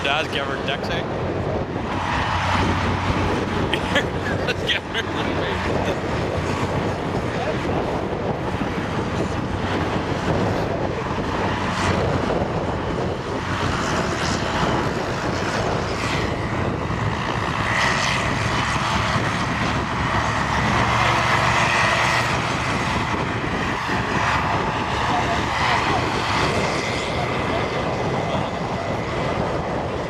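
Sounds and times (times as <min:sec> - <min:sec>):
diesel tractors under load: 0:01.4 - 0:13.8, 0:16.0 - 0:30.0.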